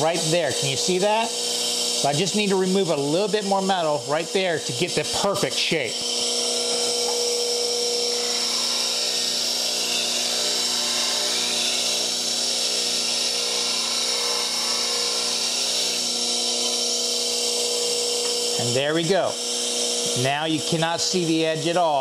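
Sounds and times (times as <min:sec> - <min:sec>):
bench grinder motor hum: 0:00.0 - 0:22.0.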